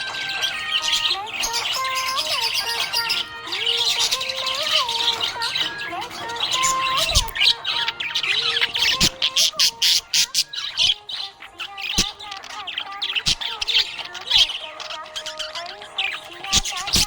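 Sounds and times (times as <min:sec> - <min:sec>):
budgerigars chirping and chattering: 0:00.0 - 0:17.0.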